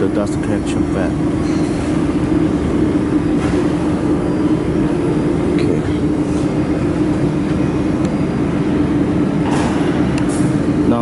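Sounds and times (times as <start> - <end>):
dust collection fan humming: 0.0 - 11.0.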